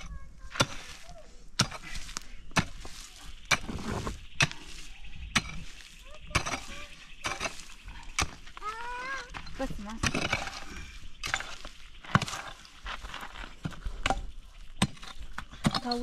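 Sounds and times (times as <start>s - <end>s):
pick striking stony ground: 1.6s - 8.6s, 9.3s - 16.0s.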